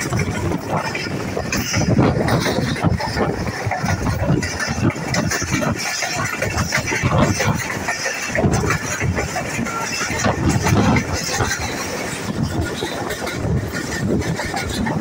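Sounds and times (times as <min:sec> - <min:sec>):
train wheels rumbling on rails: 0:00.0 - 0:15.0
wind noise: 0:00.0 - 0:15.0.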